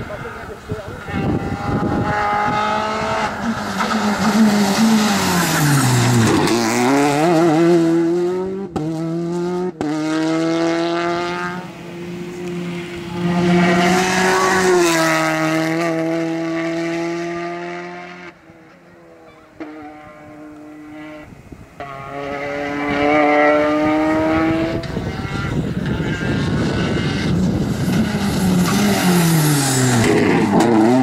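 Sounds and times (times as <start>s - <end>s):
rally car engine passing at speed: 0.0s - 31.0s.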